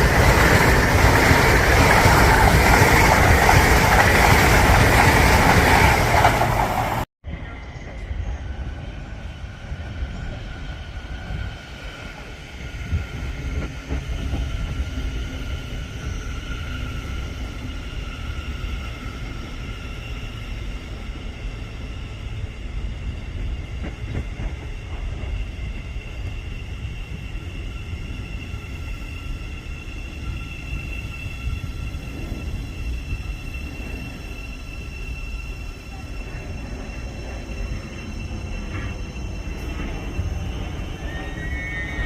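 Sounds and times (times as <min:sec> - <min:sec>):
train rumbling: 0:00.0 - 0:42.0.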